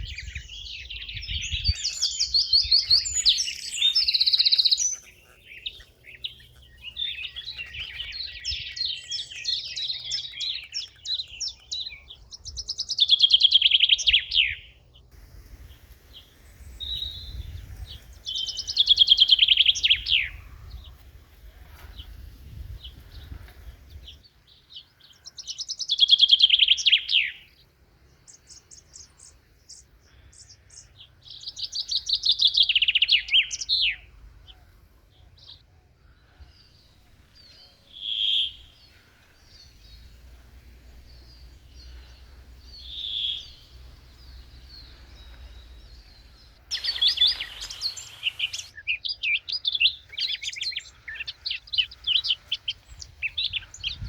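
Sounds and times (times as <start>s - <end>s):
overlapping bird chirping: 0.0s - 14.7s, 15.7s - 21.2s, 28.3s - 34.7s, 36.6s - 54.0s
bird calls: 0.0s - 54.0s
songbirds singing: 0.0s - 54.0s.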